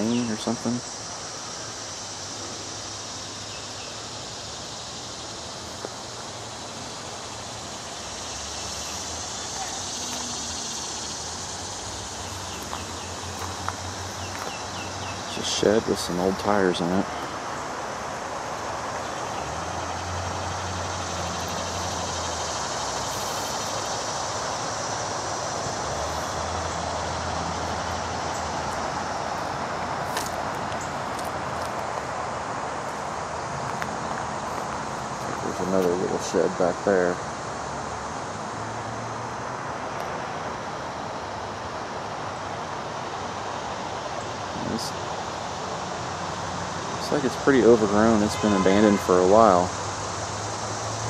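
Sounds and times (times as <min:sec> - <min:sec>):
insects chirring: 0:00.0 - 0:51.0.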